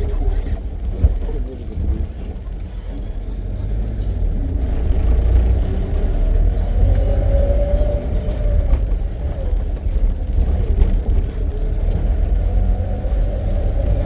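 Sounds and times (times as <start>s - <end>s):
vehicle engine rumbling with whine: 0.0s - 14.0s.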